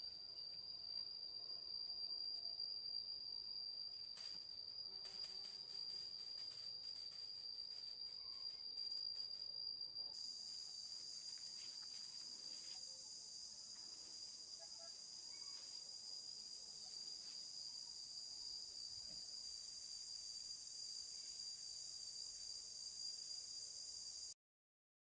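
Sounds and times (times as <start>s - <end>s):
crickets trilling: 0.0s - 24.4s.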